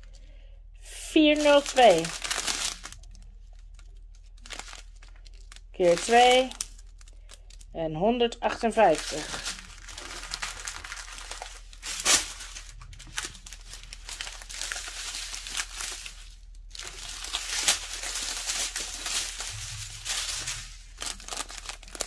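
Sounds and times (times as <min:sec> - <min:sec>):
plastic bags crinkling: 0:00.0 - 0:22.0
sharp plastic crackles: 0:01.2 - 0:07.8, 0:08.4 - 0:22.0.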